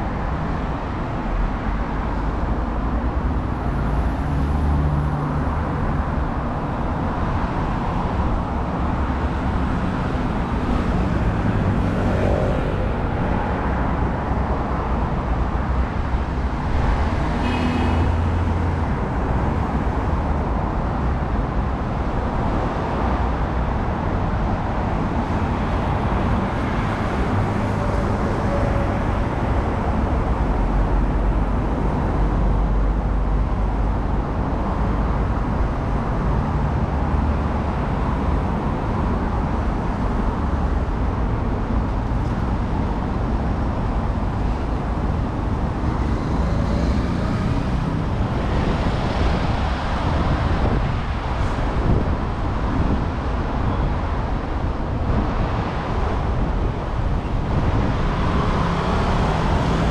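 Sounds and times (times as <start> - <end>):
cars passing: 0.0 - 59.9
low rumble of road noise: 0.0 - 59.9.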